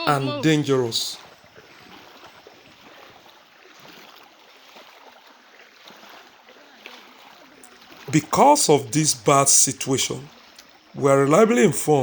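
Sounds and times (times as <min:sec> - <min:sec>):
floodwater rushing and sloshing: 0:00.0 - 0:12.0.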